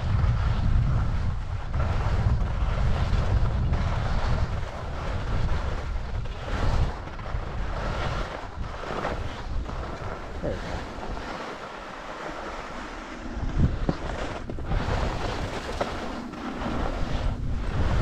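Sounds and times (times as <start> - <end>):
wind buffeting microphone: 0.0 - 18.0
skis hissing over snow: 0.1 - 18.0.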